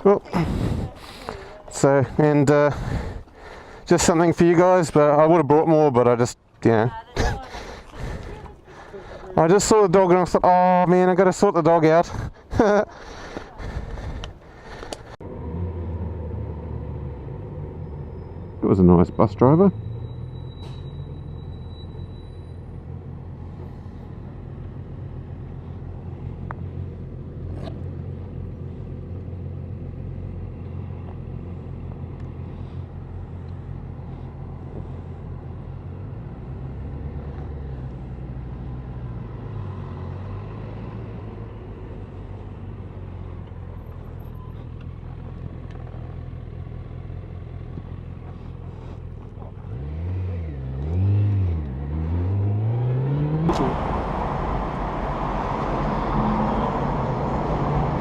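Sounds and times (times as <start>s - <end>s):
vehicle engine running: 0.0s - 20.1s, 22.4s - 58.0s.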